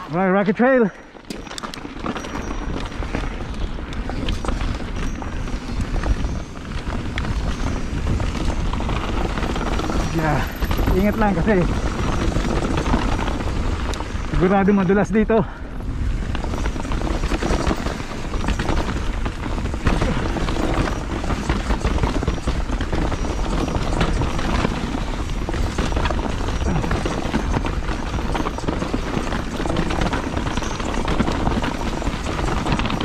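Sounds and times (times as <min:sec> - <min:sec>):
bike rattling over rocks: 0:00.0 - 0:33.0
bike tyre and wind noise: 0:00.0 - 0:33.0.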